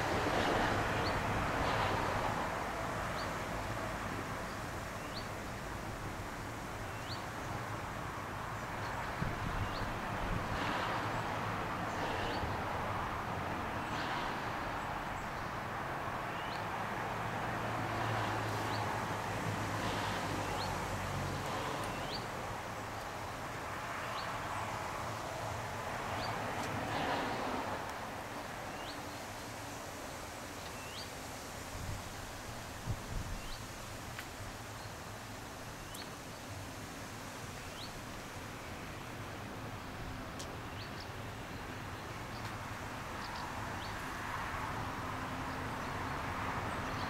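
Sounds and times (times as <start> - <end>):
distant train rumble and hiss: 0.0 - 47.0
outdoor noise: 0.0 - 47.0.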